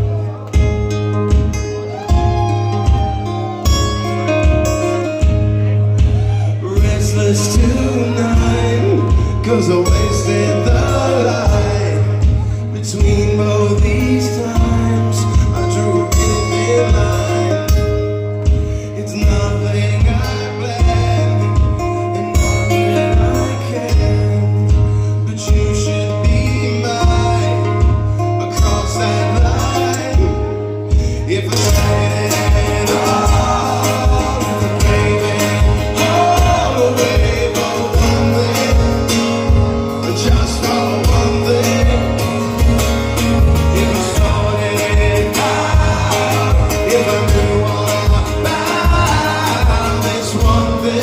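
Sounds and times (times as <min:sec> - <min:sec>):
live rock band playing: 0:00.0 - 0:51.0
man singing: 0:00.0 - 0:51.0.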